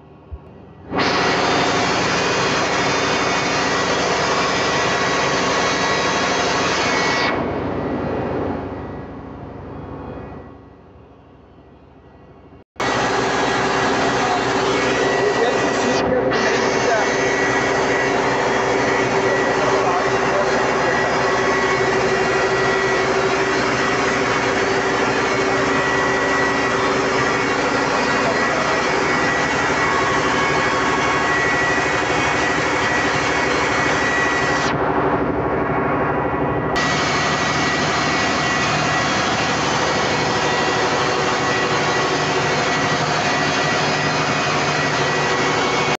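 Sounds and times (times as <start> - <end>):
diesel generator running: 0.0 - 46.0
thin steady whine: 0.0 - 46.0.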